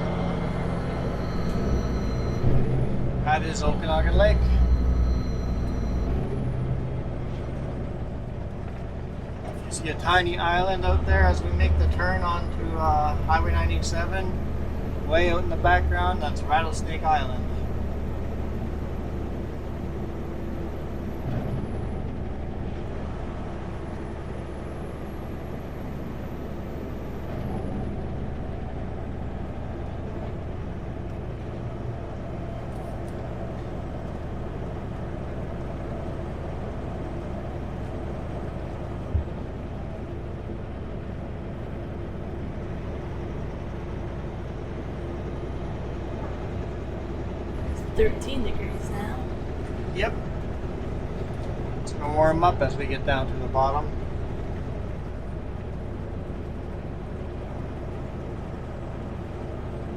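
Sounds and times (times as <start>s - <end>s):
road noise: 0.0s - 59.9s
truck diesel engine rumble: 0.0s - 59.9s.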